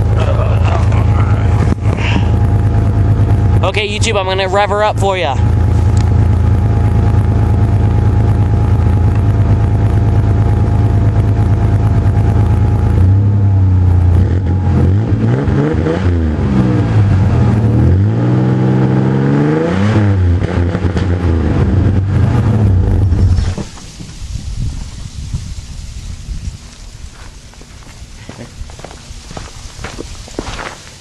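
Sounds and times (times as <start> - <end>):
truck engine idling and revving: 0.0 - 31.0.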